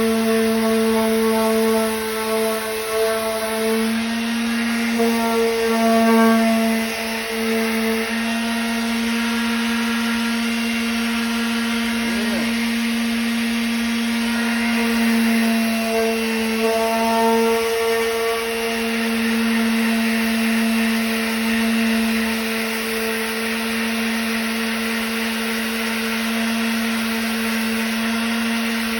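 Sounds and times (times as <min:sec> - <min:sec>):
electric sander whining: 0:00.0 - 0:28.9.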